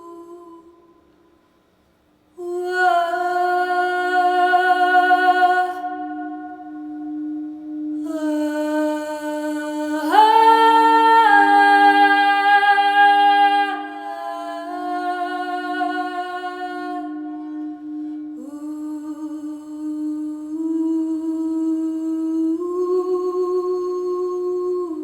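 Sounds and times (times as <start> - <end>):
person singing long wordless notes: 0.0 - 1.1, 2.3 - 25.0.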